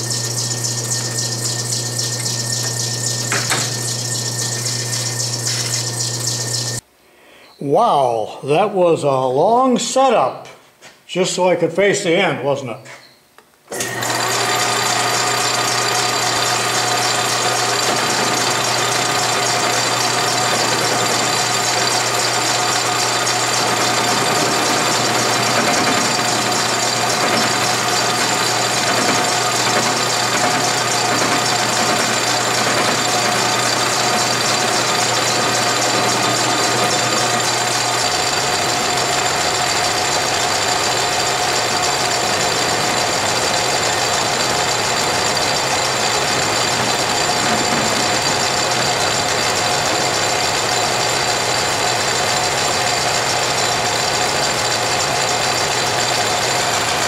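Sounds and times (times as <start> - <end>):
lathe gears and motor whining: 0.0 - 6.8, 13.7 - 57.0.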